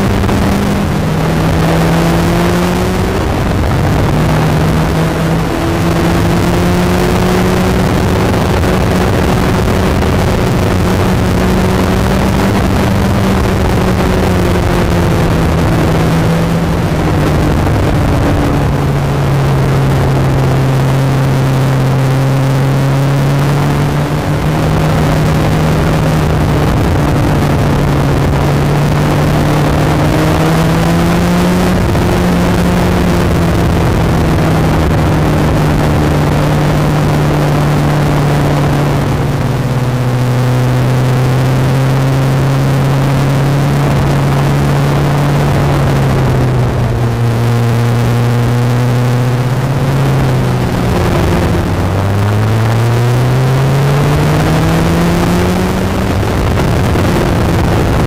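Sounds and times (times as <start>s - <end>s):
motorcycle engine at speed: 0.0s - 58.0s
wind noise: 0.0s - 58.0s.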